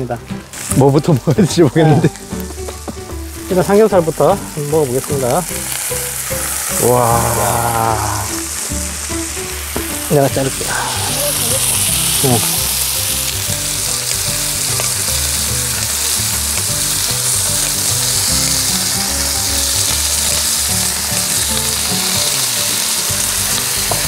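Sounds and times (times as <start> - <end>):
meat sizzling on a griddle: 0.0 - 24.0.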